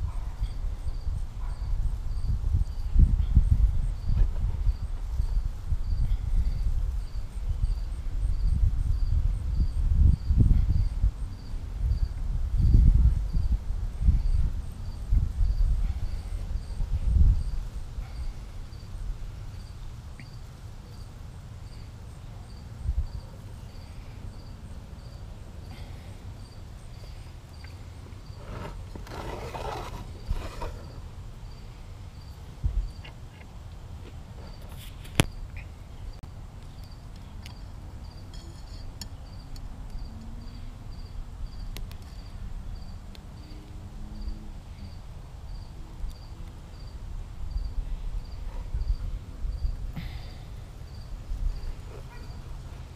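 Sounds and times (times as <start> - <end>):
insect chirping: 0.4 - 33.4, 34.5 - 43.6, 44.2 - 52.7.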